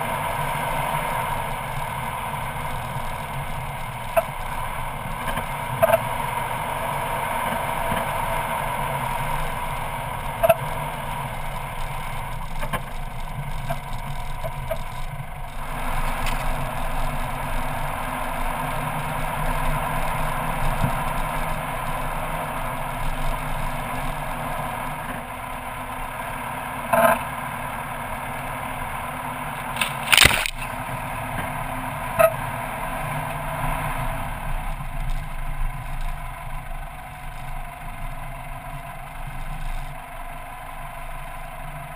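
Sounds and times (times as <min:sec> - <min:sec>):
vehicle engine and tyre noise: 0:00.0 - 0:41.9.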